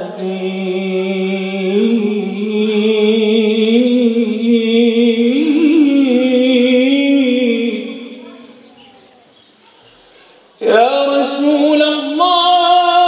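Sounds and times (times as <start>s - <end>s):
man singing unaccompanied: 0.0s - 8.4s, 10.6s - 13.0s.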